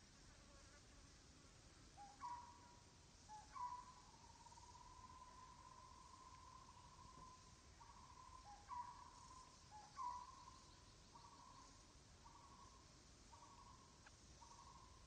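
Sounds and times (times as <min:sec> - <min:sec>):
faint animal call: 0:02.0 - 0:15.0.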